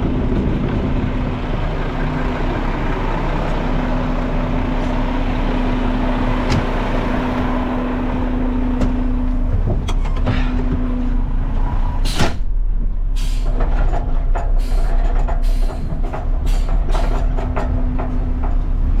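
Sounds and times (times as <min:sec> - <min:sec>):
garbage truck diesel engine running: 0:00.0 - 0:19.0.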